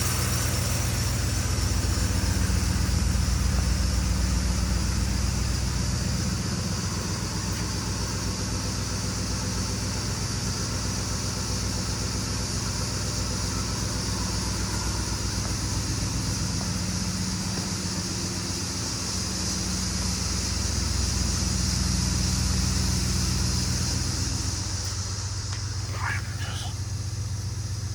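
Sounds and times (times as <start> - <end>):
truck engine idling: 0.0 - 27.9.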